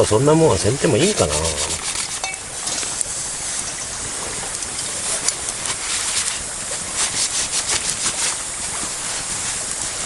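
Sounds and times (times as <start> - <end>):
campfire hiss: 0.0 - 10.0
fire crackling and popping: 1.8 - 10.0.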